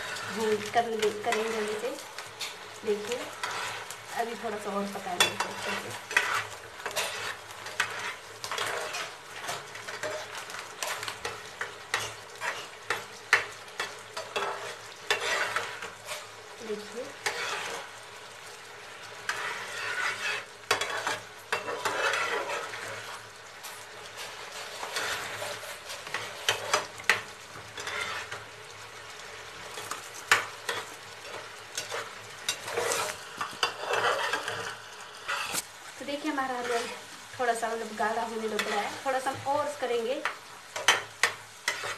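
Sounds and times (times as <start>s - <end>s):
spatula scraping metal pan: 0.0s - 1.8s, 2.4s - 18.0s, 19.2s - 23.2s, 24.1s - 28.4s, 29.7s - 35.6s, 36.5s - 37.1s, 38.4s - 41.9s
steady sizzle: 0.0s - 41.9s.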